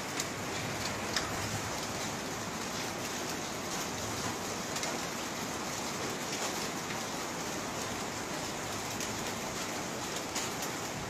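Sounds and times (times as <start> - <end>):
rain on concrete roof: 0.0 - 11.0.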